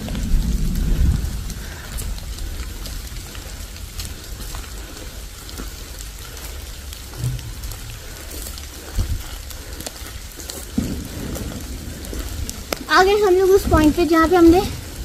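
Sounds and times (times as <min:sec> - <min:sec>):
raindrops ticking on leaves: 0:00.0 - 0:15.0
soft low thumps: 0:00.0 - 0:15.0
steady low rumble: 0:00.0 - 0:15.0.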